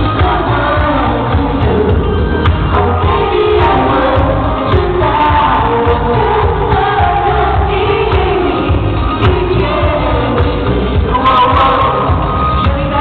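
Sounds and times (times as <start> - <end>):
backing music with steady beat: 0.0 - 13.0
man and woman singing duet: 0.0 - 13.0.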